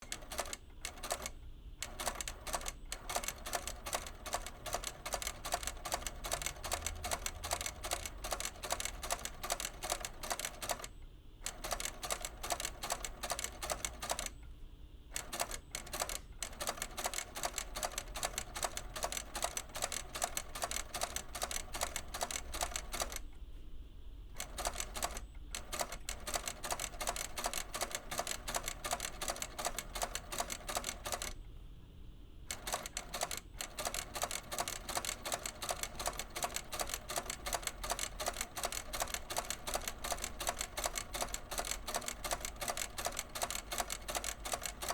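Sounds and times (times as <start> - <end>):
rapid mechanical clicking: 0.0 - 14.4, 15.2 - 23.3, 24.4 - 31.4, 32.5 - 44.9.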